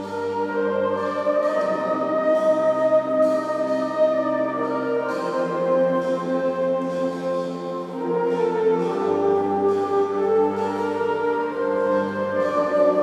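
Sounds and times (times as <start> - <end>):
brass and wind band fanfare: 0.0 - 13.0.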